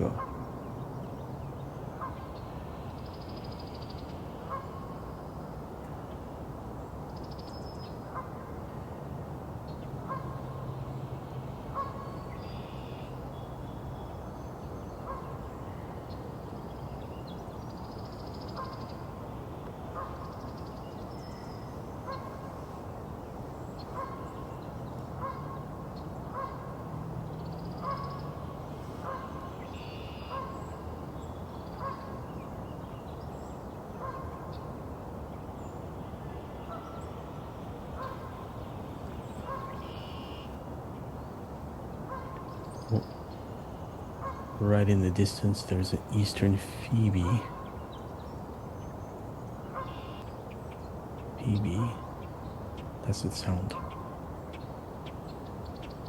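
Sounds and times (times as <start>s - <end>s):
songbirds singing: 9.6s - 26.6s, 27.2s - 56.0s.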